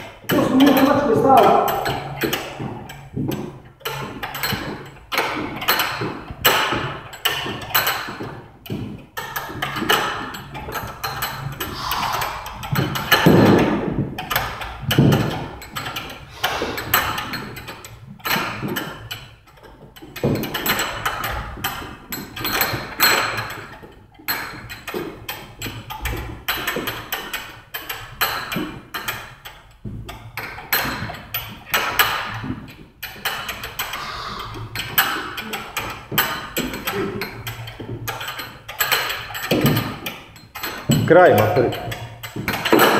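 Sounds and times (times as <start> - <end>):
battle rope slapping floor: 0.0 - 42.9.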